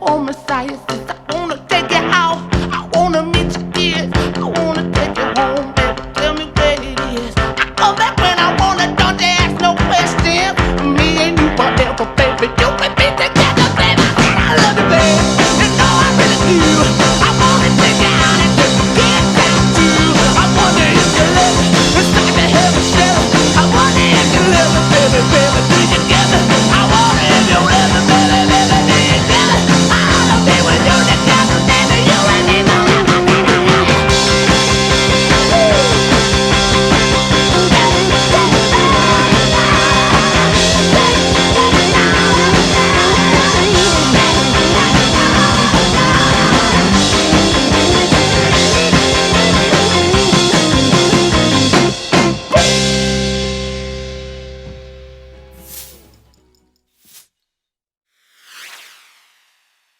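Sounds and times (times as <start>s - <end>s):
rock music with electric guitar: 0.0s - 56.4s.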